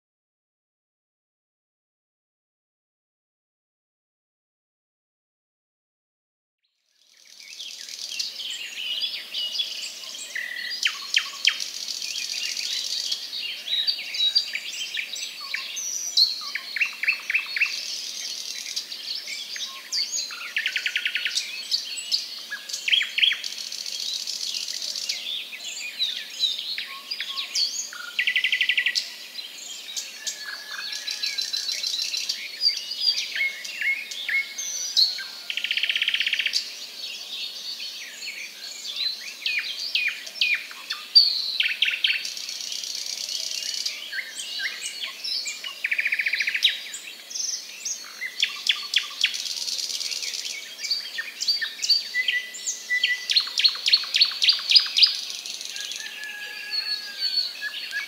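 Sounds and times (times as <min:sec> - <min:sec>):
birds chirping and calling: 0:07.1 - 0:58.0.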